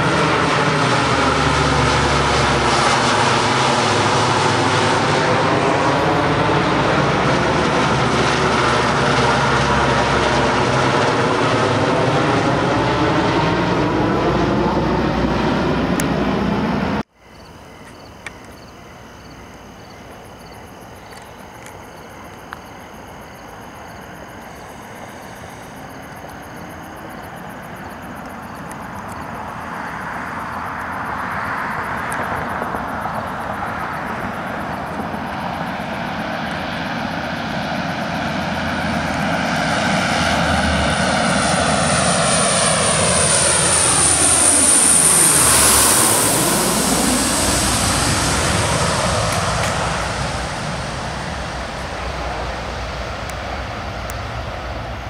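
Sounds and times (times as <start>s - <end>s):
high-pitched engine whine: 0.0s - 17.1s, 21.1s - 55.0s
turboprop aircraft engines: 0.0s - 17.1s, 20.0s - 55.0s.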